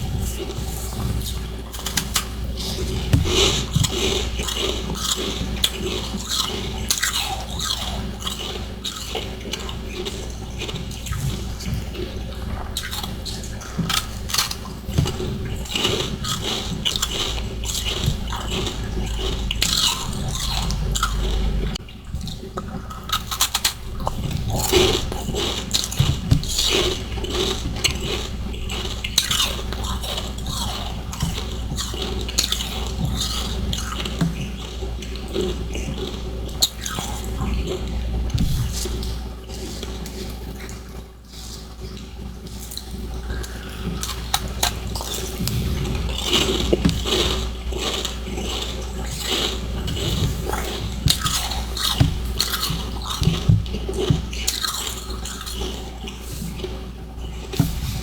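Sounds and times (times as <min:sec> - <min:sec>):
person chewing ice crunchily: 0:00.0 - 0:38.0, 0:42.6 - 0:58.0.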